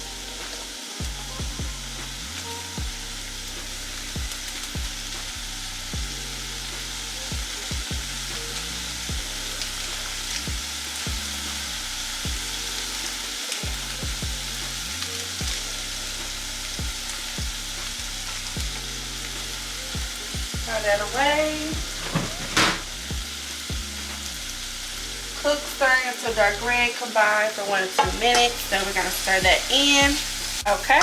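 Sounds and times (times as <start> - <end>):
meat sizzling in a pot: 0.0 - 31.0.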